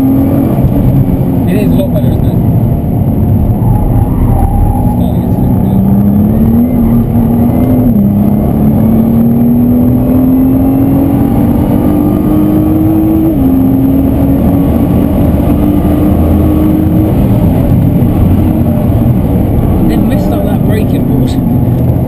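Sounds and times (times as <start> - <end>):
car engine accelerating: 0.0 - 22.0
road and tyre noise: 0.0 - 22.0.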